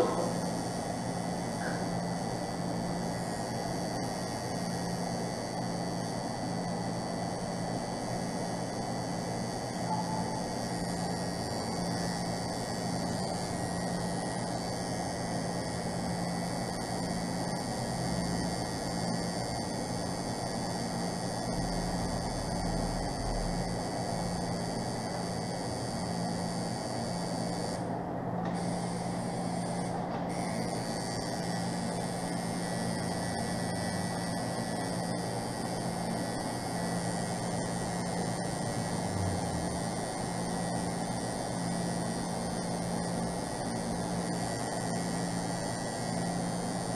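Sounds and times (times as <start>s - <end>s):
tattoo machine buzzing: 0.0s - 46.9s.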